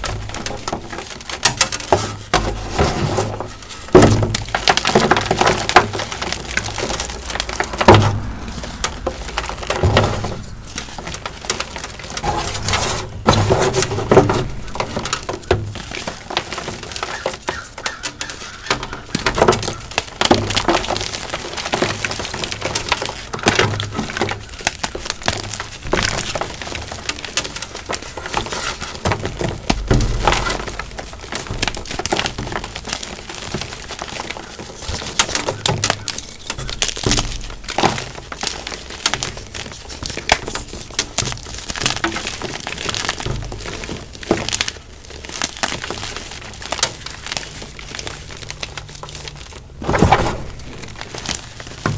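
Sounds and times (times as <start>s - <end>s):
chalk blocks being crushed: 0.0s - 51.9s.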